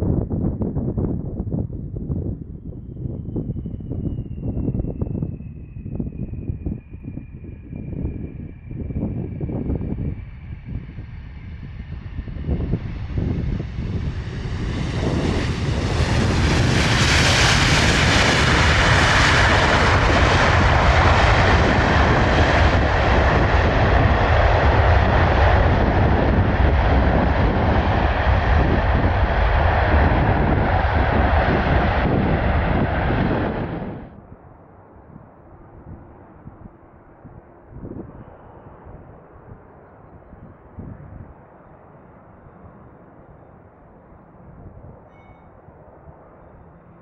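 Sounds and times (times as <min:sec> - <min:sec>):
jet airliner engine roar: 0:00.0 - 0:47.0.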